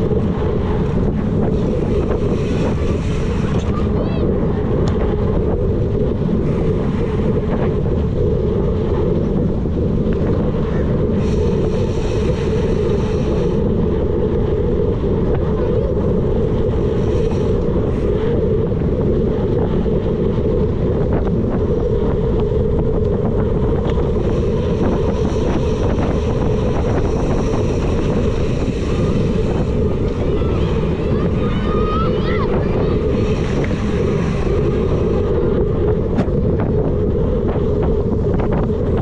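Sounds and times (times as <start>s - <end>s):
bike tyre rolling on dirt: 0.0s - 39.0s
wind buffeting microphone: 0.0s - 39.0s.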